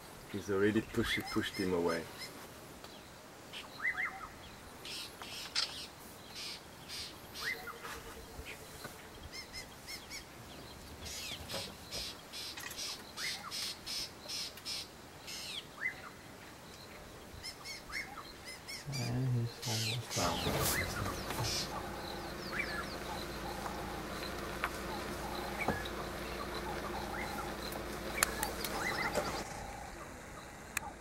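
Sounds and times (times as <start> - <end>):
bird sharp chirping calls: 0.7 - 2.4, 3.5 - 31.0.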